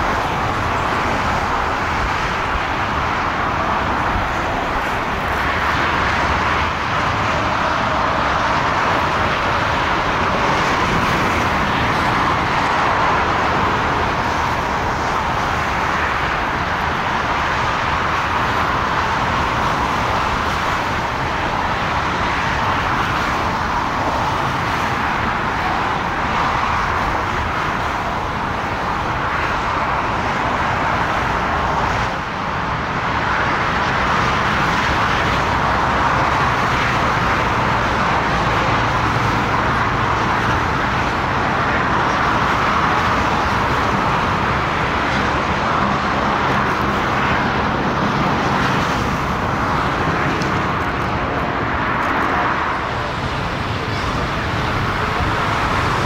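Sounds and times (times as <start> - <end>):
airport and road traffic roar: 0.0 - 56.0.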